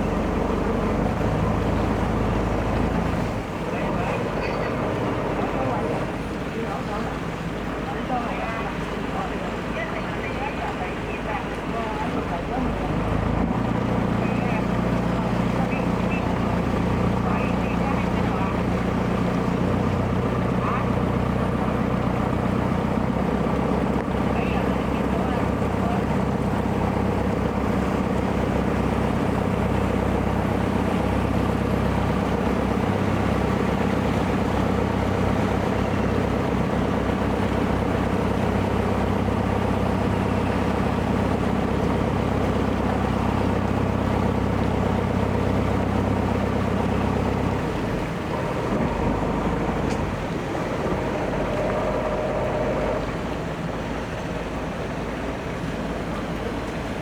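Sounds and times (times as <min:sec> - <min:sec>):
boat engine hum: 0:00.0 - 0:57.0
water splashing: 0:00.0 - 0:57.0
wind: 0:00.0 - 0:57.0.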